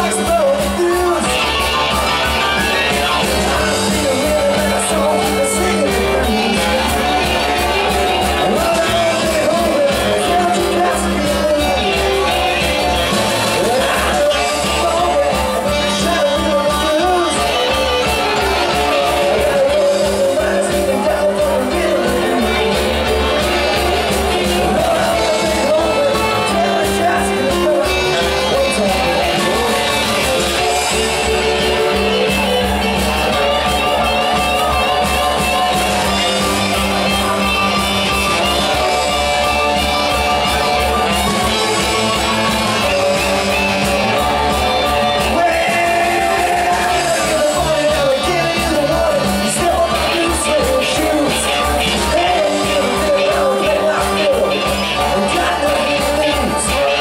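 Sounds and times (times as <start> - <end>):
electric guitars: 0.0 - 57.0
keyboard: 0.0 - 57.0.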